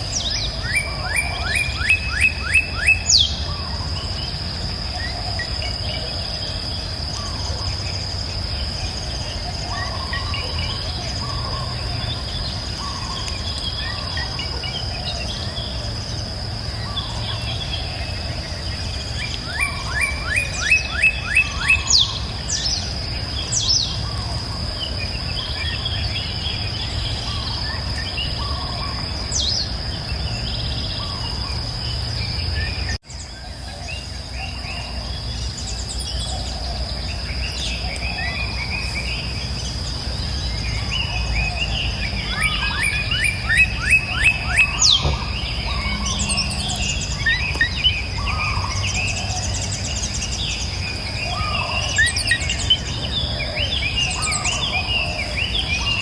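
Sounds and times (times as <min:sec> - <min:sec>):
high-pitched insect drone: 0:00.0 - 0:56.0
woodland birds chirping: 0:00.0 - 0:56.0
bird singing quick rising notes: 0:07.1 - 0:56.0.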